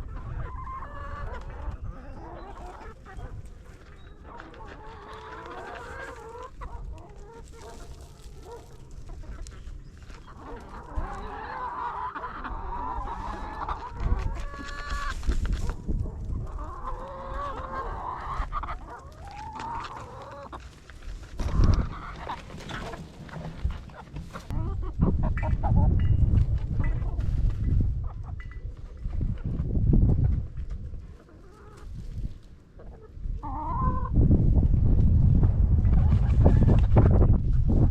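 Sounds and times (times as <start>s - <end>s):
chickens clucking: 0.0s - 37.8s.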